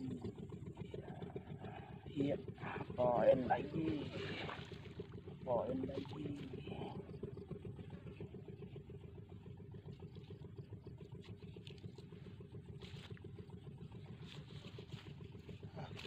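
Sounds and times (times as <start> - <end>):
distant engine hum: 0.0 - 16.0.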